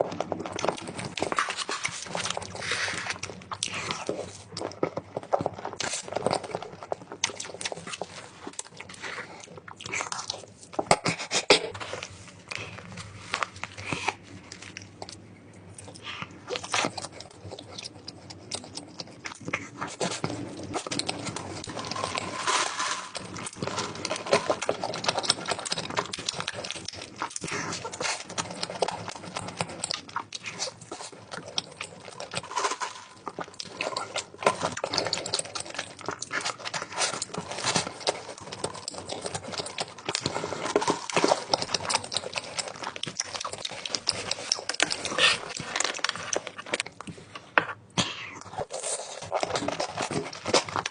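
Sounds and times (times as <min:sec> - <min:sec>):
dog crunching and chewing food: 0:00.0 - 0:50.9.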